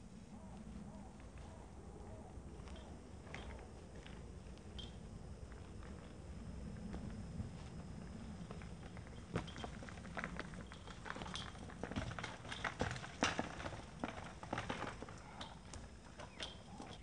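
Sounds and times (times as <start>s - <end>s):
bicycle tyres crunching on dirt: 2.4s - 17.0s.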